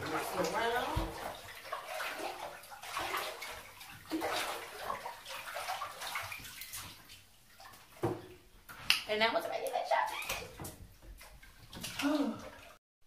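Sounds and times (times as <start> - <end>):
hand sloshing water in bathtub: 0.0 - 12.8.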